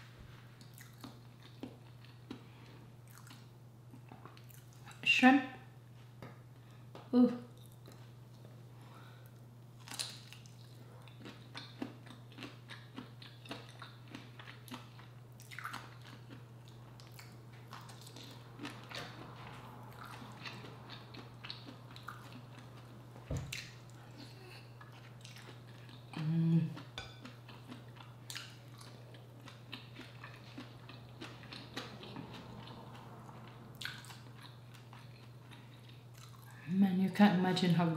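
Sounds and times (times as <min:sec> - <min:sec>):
steady low hum: 0:00.0 - 0:37.9
wet chewing and mouth clicks: 0:00.6 - 0:02.4, 0:03.0 - 0:05.0, 0:09.8 - 0:36.6.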